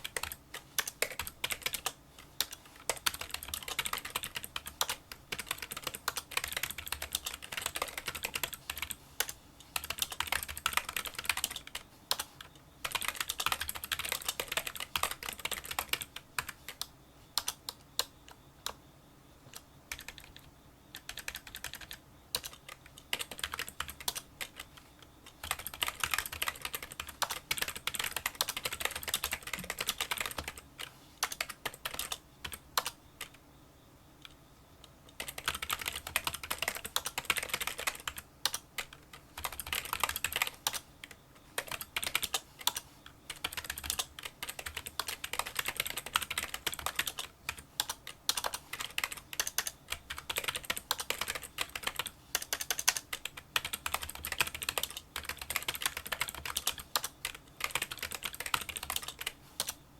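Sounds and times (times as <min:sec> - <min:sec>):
typing on keyboard: 0:00.0 - 0:18.8, 0:19.5 - 0:33.4, 0:35.0 - 0:59.8.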